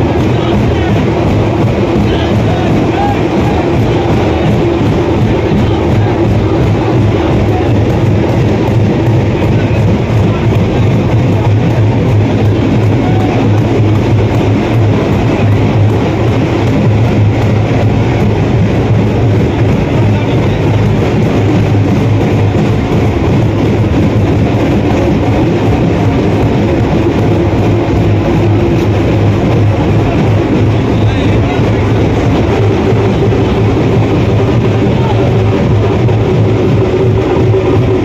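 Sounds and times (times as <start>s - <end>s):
loud music with strong bass: 0.0s - 38.0s.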